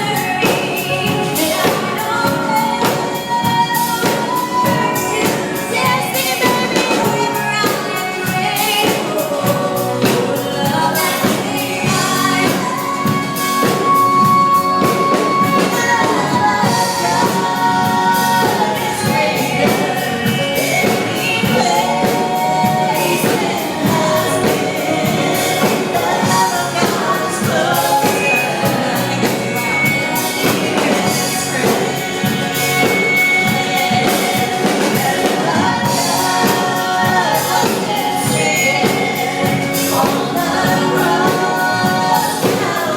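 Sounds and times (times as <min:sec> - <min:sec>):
backing band playing: 0:00.0 - 0:42.9
gospel choir singing: 0:00.0 - 0:42.9.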